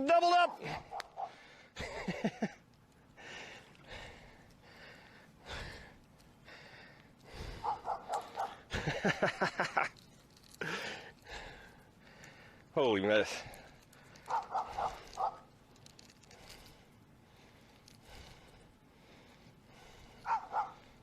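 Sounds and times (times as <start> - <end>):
man panting: 0.6 - 9.8, 10.4 - 21.0.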